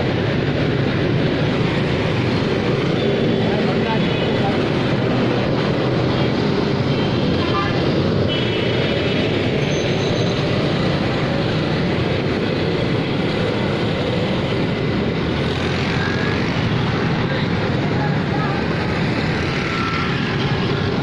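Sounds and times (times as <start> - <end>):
traffic and engine rumble: 0.0 - 21.0.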